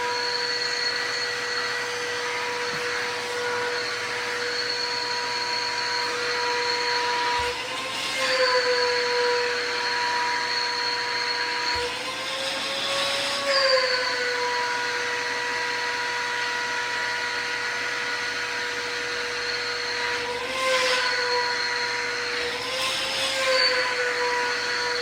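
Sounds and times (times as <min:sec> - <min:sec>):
shop vacuum motor whine: 0:00.0 - 0:25.0.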